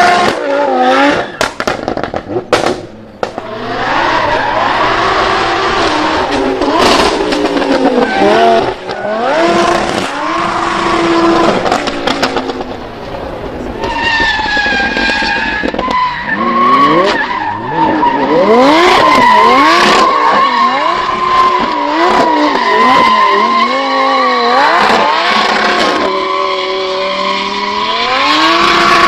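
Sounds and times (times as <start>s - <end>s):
car engine revving hard: 0.0s - 29.0s
tyre squeal: 3.4s - 12.6s, 13.6s - 29.0s.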